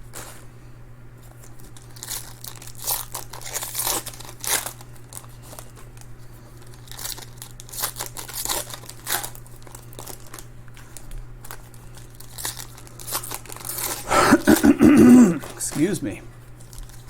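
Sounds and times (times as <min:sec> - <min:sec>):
low electrical hum: 0:00.0 - 0:17.0
foil wrappers tearing and crinkling: 0:01.2 - 0:14.8, 0:16.6 - 0:17.0.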